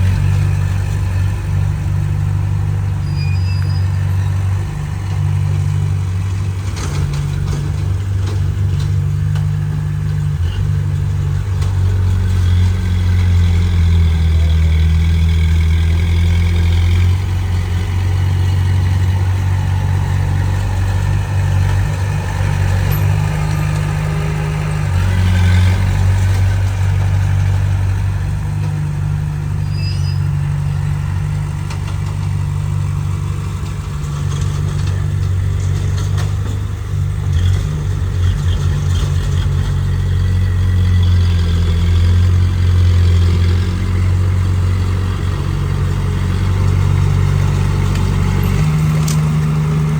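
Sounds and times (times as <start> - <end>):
heavy diesel engine humming: 0.0 - 49.9.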